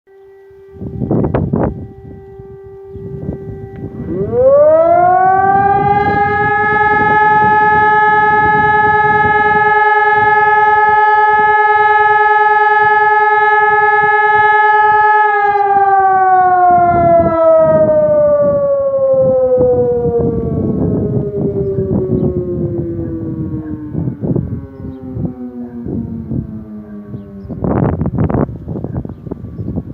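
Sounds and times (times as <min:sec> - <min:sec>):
civil defence siren wailing: 0:00.1 - 0:29.9.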